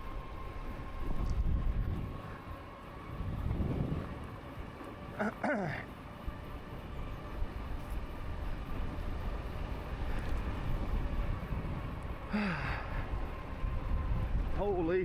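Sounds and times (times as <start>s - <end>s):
faint steady whine: 0.0s - 15.0s
road rumble: 0.0s - 15.0s
wind: 0.0s - 15.0s.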